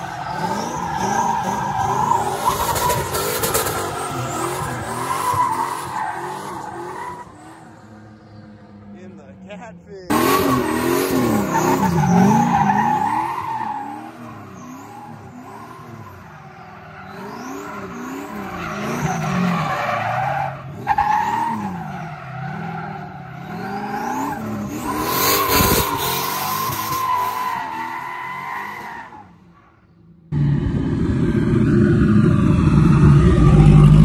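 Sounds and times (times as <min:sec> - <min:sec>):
car engine revving: 0:00.0 - 0:28.0, 0:30.3 - 0:34.0.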